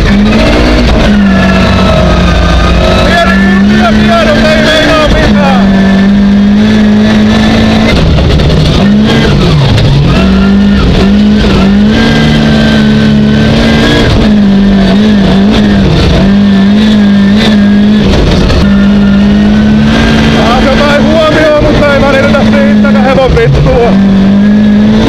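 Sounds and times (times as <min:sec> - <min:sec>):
racing car engine at high revs: 0:00.0 - 0:25.0.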